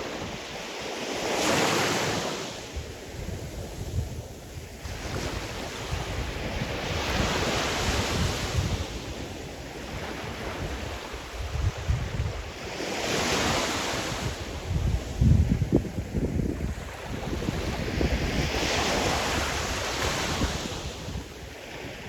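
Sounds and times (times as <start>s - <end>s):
waves breaking on shore: 0.0s - 22.0s
wind buffeting microphone: 2.7s - 22.0s.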